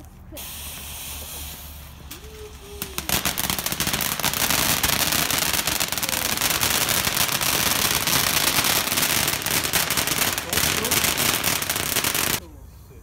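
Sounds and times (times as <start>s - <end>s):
firework crackling and popping: 0.4s - 12.4s.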